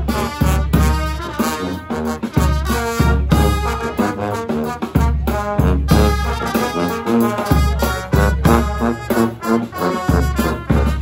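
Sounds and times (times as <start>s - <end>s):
bass drum: 0.0s - 11.0s
trombones and trumpets melody: 0.0s - 11.0s.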